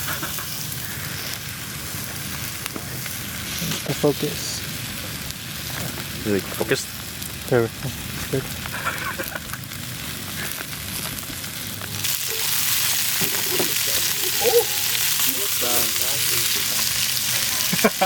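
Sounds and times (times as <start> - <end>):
steak sizzling in oil: 0.0 - 18.0.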